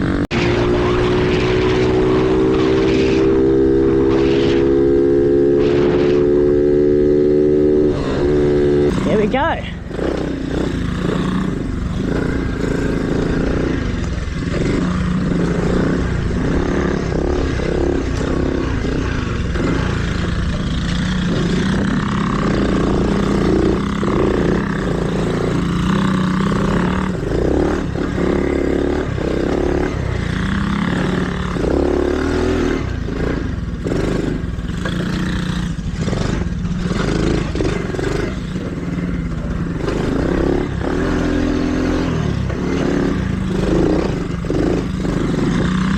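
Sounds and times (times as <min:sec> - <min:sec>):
dirt bike engine revving: 0:00.0 - 0:45.9
rattling over rough ground: 0:07.8 - 0:45.9.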